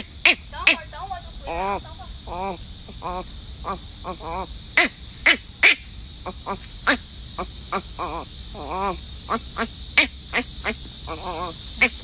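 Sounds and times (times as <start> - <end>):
infant baboon chirping: 0.0 - 12.0.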